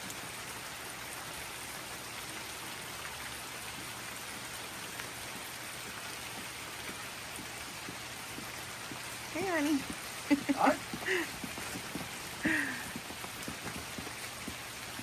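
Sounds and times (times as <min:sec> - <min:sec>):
pouring rain: 0:00.0 - 0:15.0.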